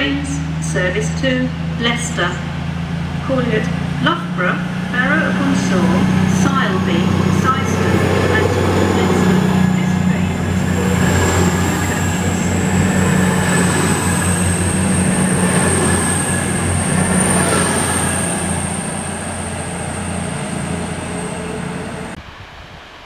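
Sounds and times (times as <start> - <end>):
diesel train engine drone: 0.0 - 23.0.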